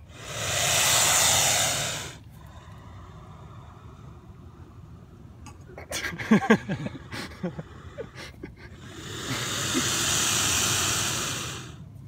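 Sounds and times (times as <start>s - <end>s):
alligator hissing: 0.0s - 5.4s, 6.6s - 11.8s.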